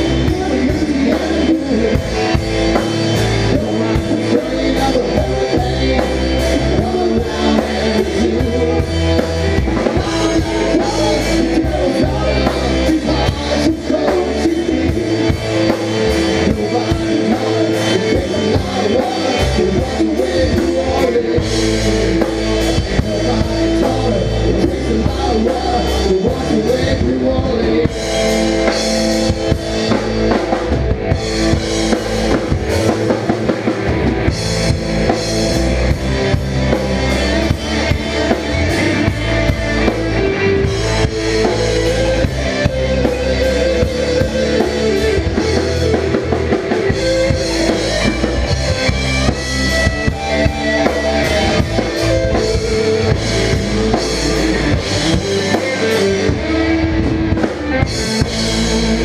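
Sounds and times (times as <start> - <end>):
drum kit beat: 0.0 - 59.0
guitar and bass: 0.0 - 59.0.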